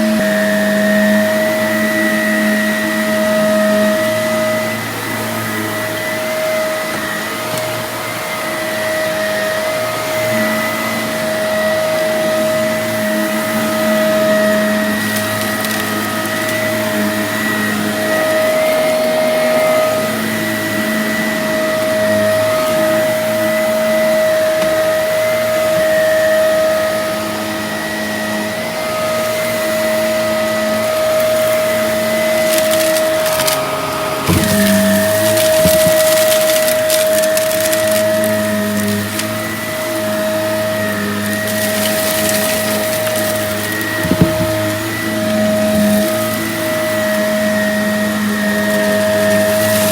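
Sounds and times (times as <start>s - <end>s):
vacuum cleaner running: 0.0s - 49.9s
debris crackling in vacuum: 0.2s - 49.9s.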